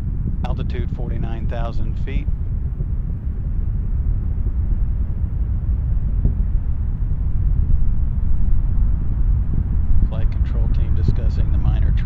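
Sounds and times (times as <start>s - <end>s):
rocket engines low rumble: 0.0s - 12.0s.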